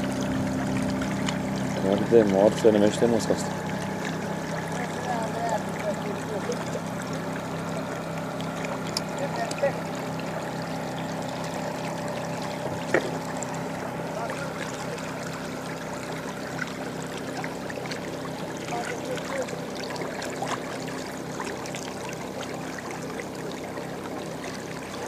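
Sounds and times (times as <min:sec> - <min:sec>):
steady low hum: 0:00.0 - 0:25.0
water lapping against boat: 0:00.0 - 0:25.0.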